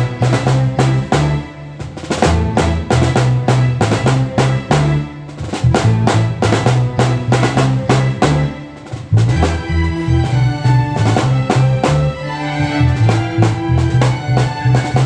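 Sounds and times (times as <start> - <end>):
drum kit beat: 0.0 - 15.0
low bass notes: 0.0 - 15.0.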